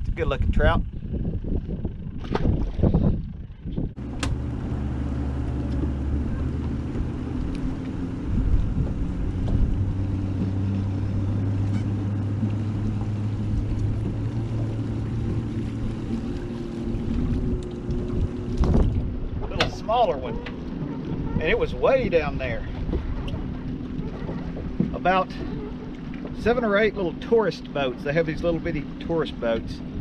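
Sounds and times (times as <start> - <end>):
boat motor droning: 0.0 - 30.0.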